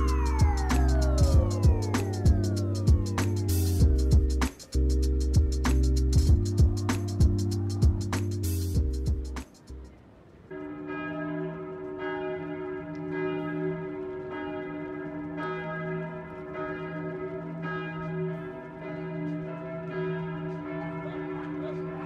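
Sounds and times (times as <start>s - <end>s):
church bells pealing: 0.0s - 9.8s, 10.4s - 22.0s.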